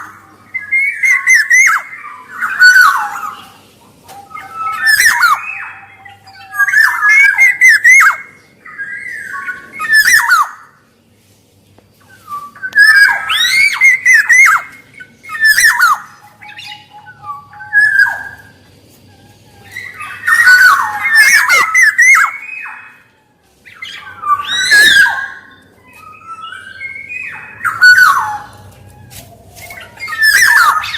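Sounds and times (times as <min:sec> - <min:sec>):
bird calling with harsh squawks: 0:00.0 - 0:10.9, 0:12.0 - 0:30.9.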